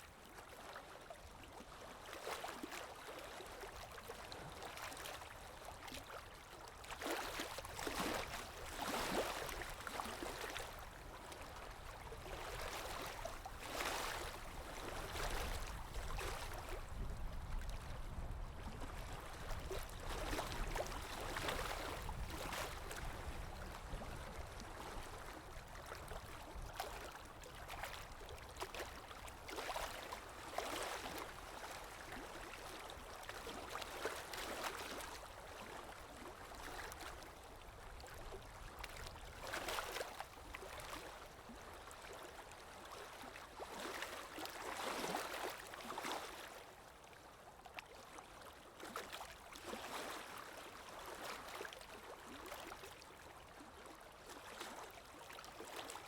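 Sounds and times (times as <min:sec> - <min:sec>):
water lapping and gurgling: 0:00.0 - 0:56.0.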